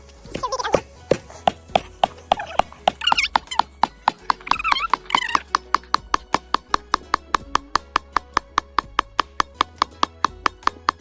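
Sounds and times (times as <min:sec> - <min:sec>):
rapid even tapping: 0:00.4 - 0:11.0.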